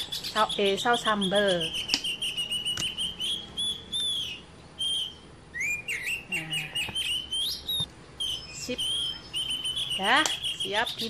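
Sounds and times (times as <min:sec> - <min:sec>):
bird chirping and whistling: 0:00.0 - 0:11.0.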